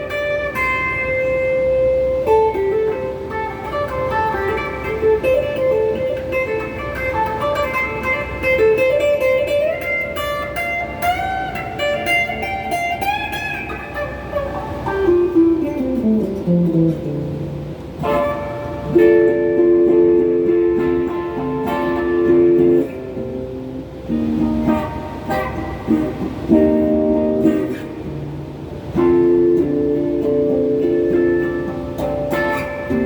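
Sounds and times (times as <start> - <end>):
electric guitar with phaser: 0.0 - 33.0.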